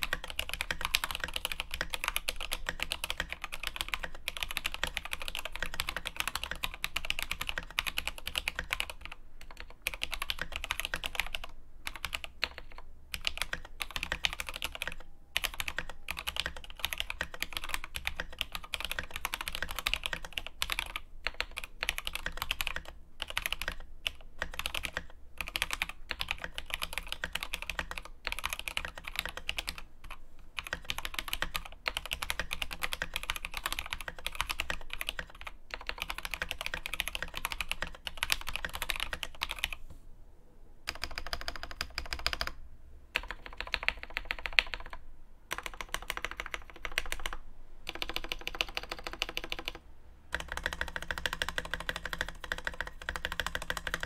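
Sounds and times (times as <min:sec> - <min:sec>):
mechanical keyboard typing: 0:00.0 - 0:39.8, 0:40.9 - 0:42.6, 0:43.2 - 0:54.0.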